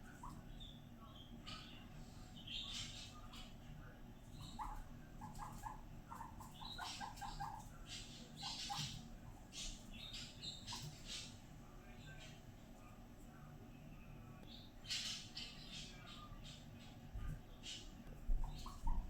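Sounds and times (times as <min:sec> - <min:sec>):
guinea pig chutting: 0:00.0 - 0:19.0.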